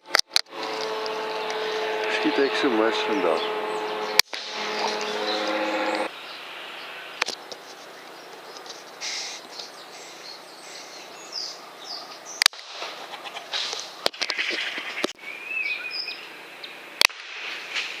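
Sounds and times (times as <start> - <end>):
outdoor background noise: 0.0 - 18.0
birds chirping and calling: 0.6 - 16.9.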